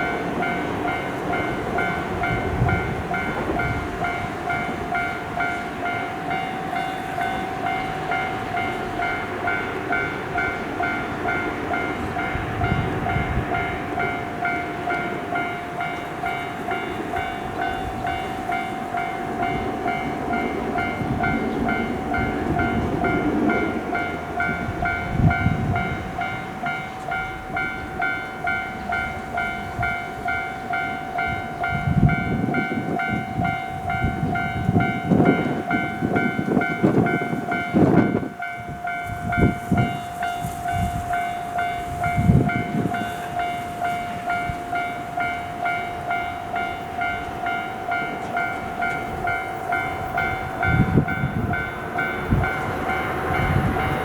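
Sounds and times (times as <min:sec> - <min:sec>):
level-crossing alarm bell: 0:00.0 - 0:54.0
train wheels rumbling: 0:00.0 - 0:54.0.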